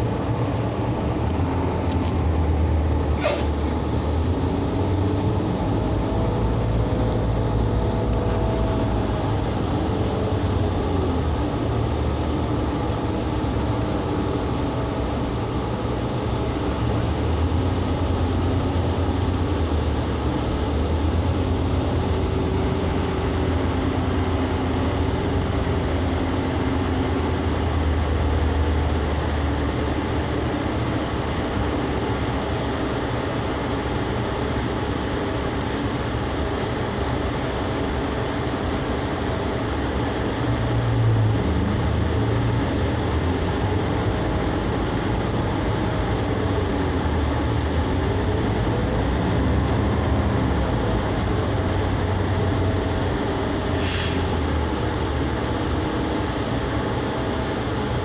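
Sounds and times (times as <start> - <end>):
transit vehicle rumble: 0.0 - 58.0.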